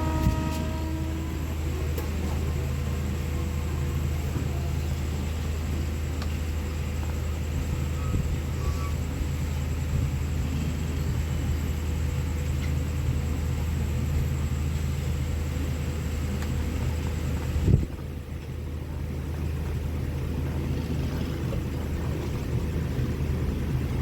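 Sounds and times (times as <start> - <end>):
diesel train rumbling: 0.0 - 24.0.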